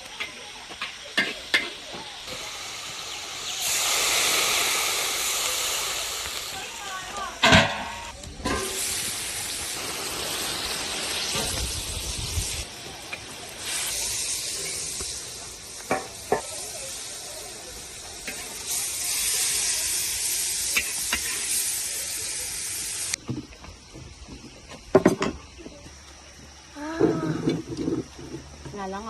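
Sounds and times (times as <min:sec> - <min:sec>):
steady hissing noise: 0:00.0 - 0:29.0.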